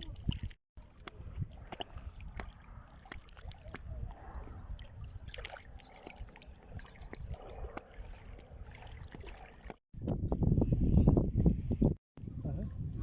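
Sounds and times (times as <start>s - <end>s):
water lapping and trickling: 0.0s - 10.5s.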